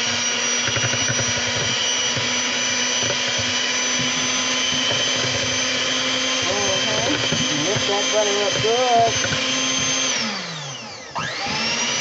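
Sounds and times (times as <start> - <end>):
electric hand mixer beating in metal bowl: 0.0 - 12.0.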